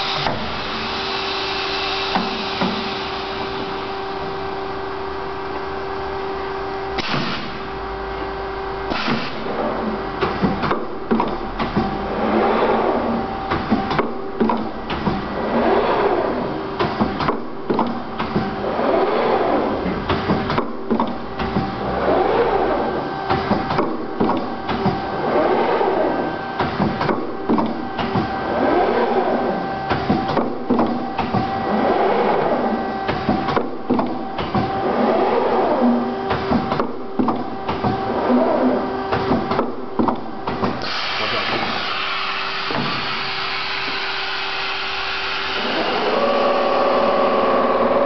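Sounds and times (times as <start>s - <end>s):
machine humming: 0.0s - 48.0s.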